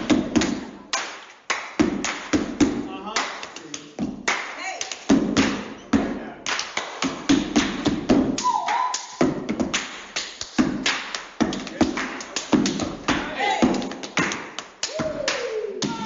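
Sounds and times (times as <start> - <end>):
hand claps: 0.0 - 5.7, 6.4 - 16.0
rhythmic foot stomps: 0.0 - 16.0.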